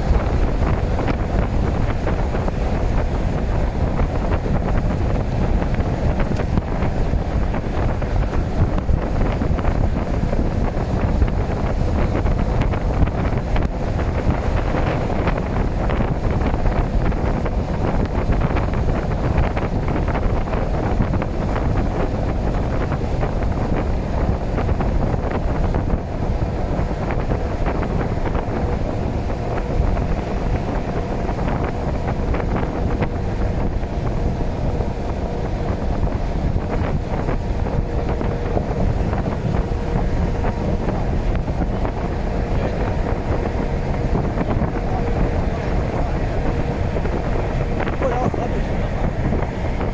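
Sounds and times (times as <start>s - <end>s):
freight train rumbling: 0.0s - 49.9s
wind buffeting microphone: 0.0s - 49.9s.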